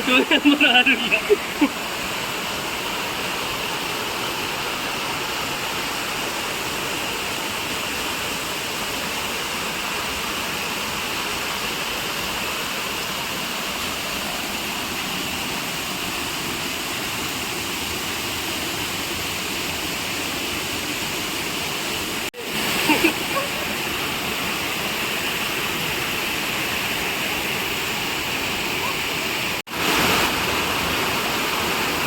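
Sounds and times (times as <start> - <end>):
waterfall roaring: 0.0 - 32.0.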